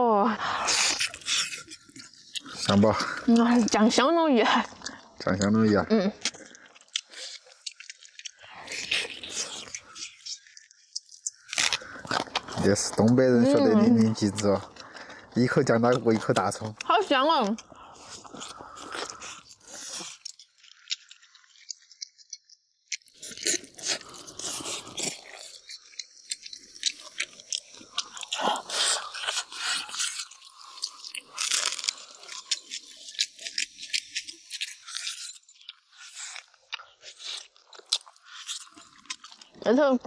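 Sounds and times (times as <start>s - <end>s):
biting and chewing meat: 0.4s - 40.0s.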